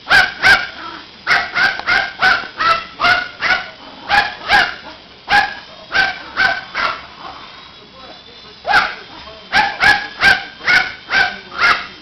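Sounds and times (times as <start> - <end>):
small dog yapping: 0.1 - 7.1, 8.7 - 12.0.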